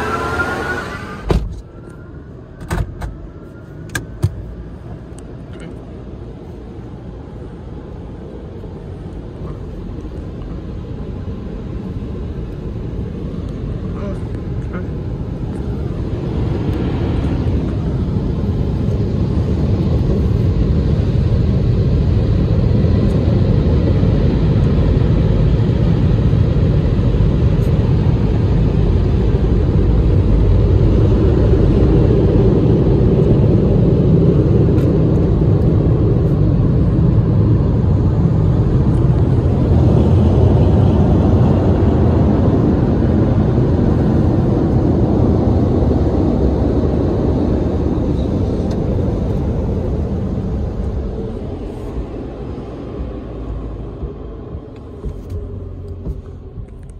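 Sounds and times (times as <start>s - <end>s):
low rumble inside car: 0.0s - 56.9s.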